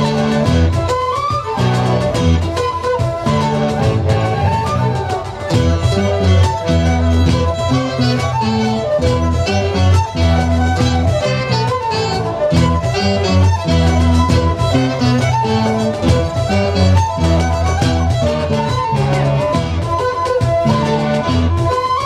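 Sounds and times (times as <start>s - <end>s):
fiddles playing melody: 0.0s - 22.0s
hand drums: 0.0s - 22.0s
saxophones: 0.0s - 22.0s
trombone: 0.0s - 22.0s.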